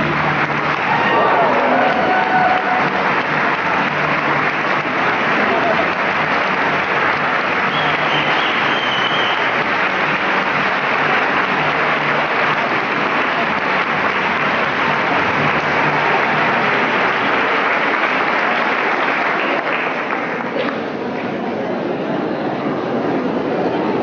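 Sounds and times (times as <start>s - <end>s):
audience applauding: 0.0s - 21.4s.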